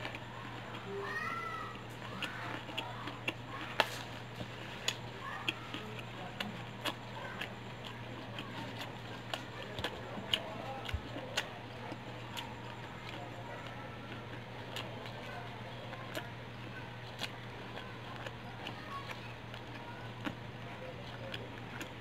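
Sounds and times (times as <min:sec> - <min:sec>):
faint steady hum: 0:00.0 - 0:22.0
person chewing crunchy fried chicken: 0:00.0 - 0:22.0.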